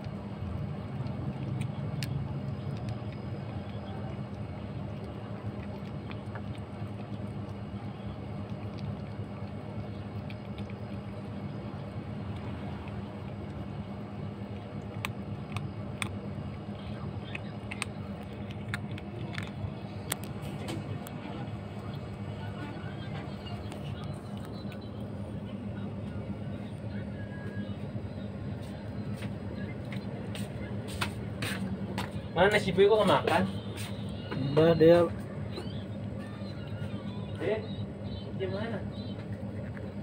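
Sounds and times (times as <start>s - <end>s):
kitten crunching dry kibble: 0.0s - 40.0s
steady low hum: 0.0s - 40.0s.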